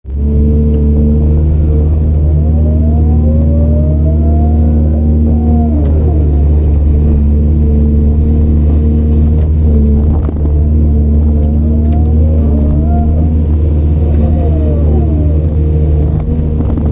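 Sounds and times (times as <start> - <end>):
heavy diesel engine running: 0.0 - 16.9
high-pitched whine: 0.1 - 16.9.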